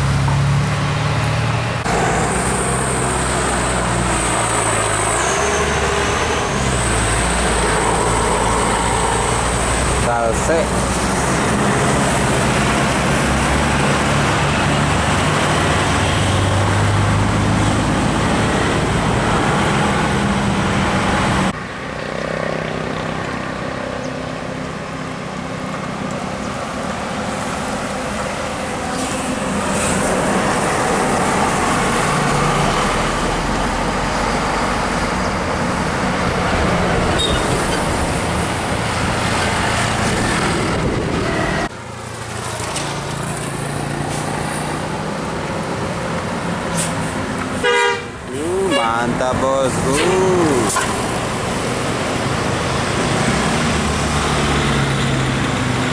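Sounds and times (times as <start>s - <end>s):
heavy vehicles driving past: 0.0s - 55.9s
steady passing traffic: 0.0s - 55.9s.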